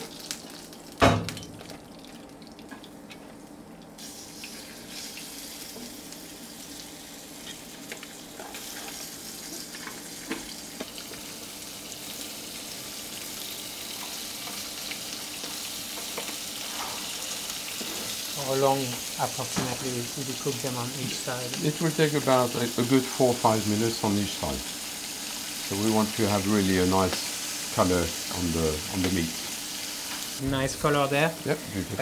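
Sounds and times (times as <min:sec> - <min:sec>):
shellfish sizzling in a pan: 0:00.0 - 0:03.1, 0:03.9 - 0:32.0.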